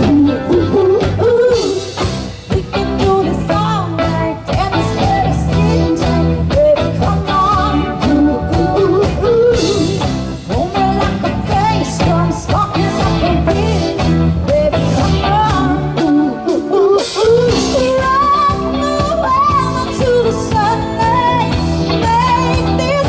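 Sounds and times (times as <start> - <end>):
upbeat song with vocals: 0.0 - 23.0.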